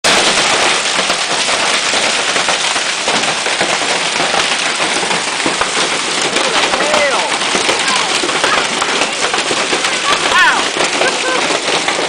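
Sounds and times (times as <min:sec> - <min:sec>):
hailstones clattering: 0:00.0 - 0:12.0.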